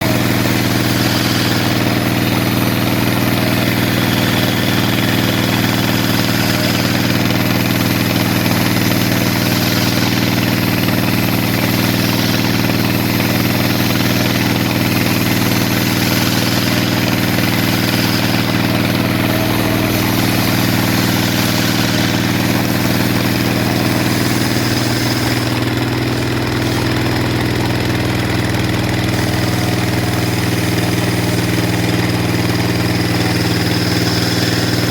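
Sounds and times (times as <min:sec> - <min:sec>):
sawmill saw cutting wood: 0:00.0 - 0:34.9.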